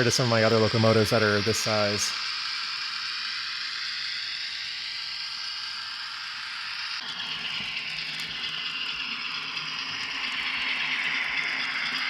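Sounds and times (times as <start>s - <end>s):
model train whirring: 0.0s - 12.0s.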